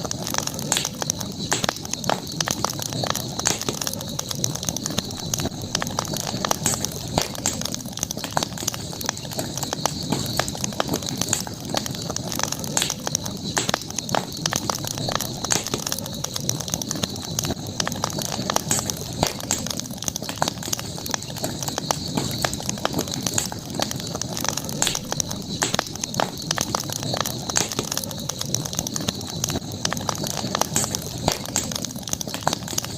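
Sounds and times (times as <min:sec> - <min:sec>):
campfire crackling and popping: 0:00.0 - 0:32.9
high-pitched hiss: 0:00.0 - 0:32.9.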